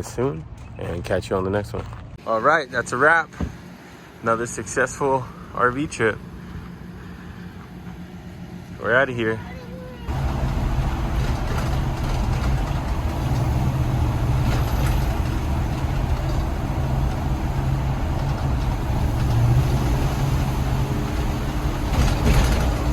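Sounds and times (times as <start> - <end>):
motorhome engine driving away: 2.2 - 22.9.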